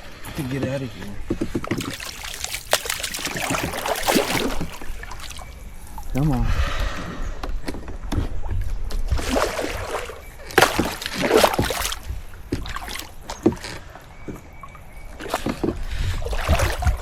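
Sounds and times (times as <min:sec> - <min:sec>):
water splashing and sloshing: 0:00.2 - 0:17.0.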